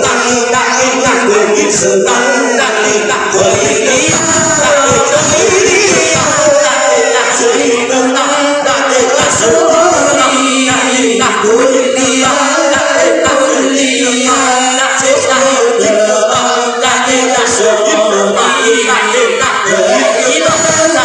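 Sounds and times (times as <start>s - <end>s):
congregation chanting together: 0.0s - 21.0s.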